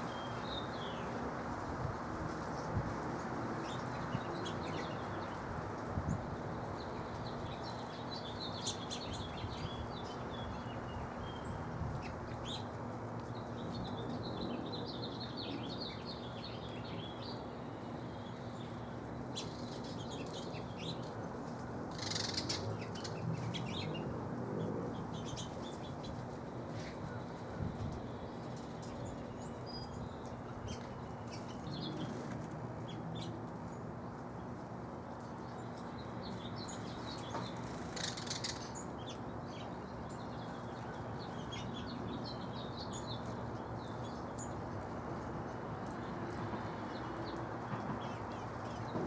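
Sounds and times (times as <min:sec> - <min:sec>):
small birds chirping: 0:02.3 - 0:49.0.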